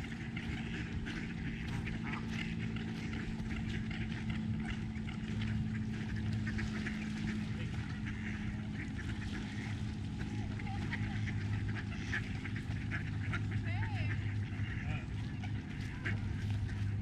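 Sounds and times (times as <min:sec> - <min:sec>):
ducks quacking: 0:00.0 - 0:17.0
low hum: 0:00.0 - 0:17.0
low rumble: 0:00.0 - 0:17.0.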